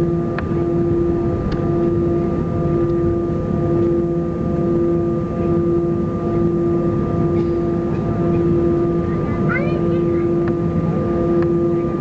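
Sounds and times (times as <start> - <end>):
aircraft cabin hum: 0.0 - 12.0
steady whining tones: 0.0 - 12.0.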